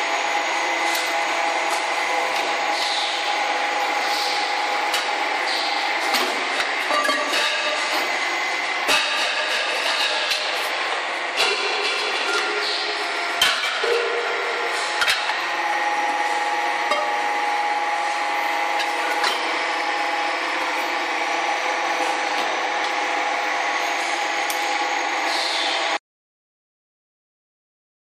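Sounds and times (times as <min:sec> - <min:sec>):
press mechanical hum and hiss: 0:00.0 - 0:26.0.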